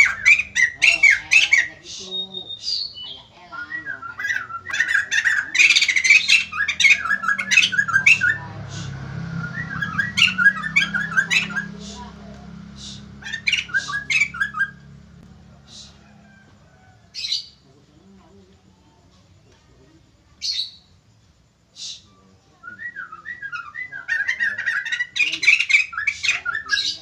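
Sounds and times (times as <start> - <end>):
bird chattering calls: 0.0 - 17.7, 20.3 - 21.0, 21.7 - 27.0
steady low hum: 0.0 - 24.1.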